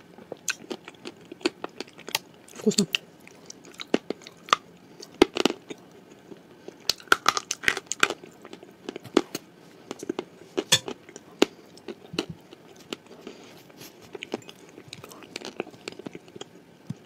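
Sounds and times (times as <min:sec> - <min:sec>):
crunchy chewing: 0:00.2 - 0:17.0.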